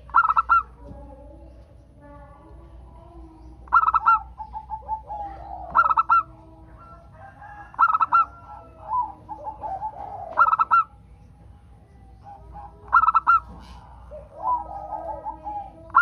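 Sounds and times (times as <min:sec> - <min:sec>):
dove cooing: 0:00.0 - 0:11.1, 0:12.0 - 0:16.0.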